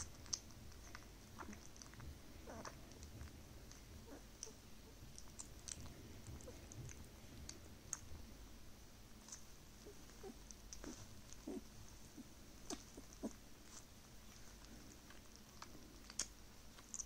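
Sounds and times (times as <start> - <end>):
puppy licking and smacking lips: 0.0 - 8.2, 9.1 - 17.0.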